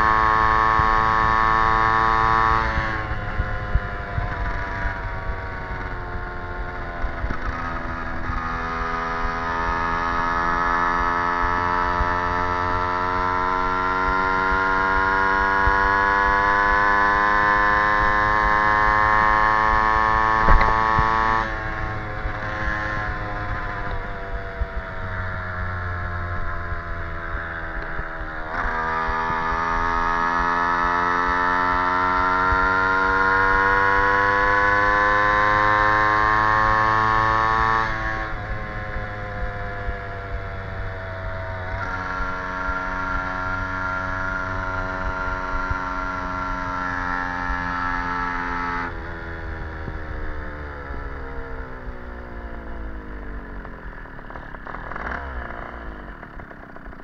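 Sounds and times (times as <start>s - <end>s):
two-stroke moped engine buzzing: 0.0s - 57.0s.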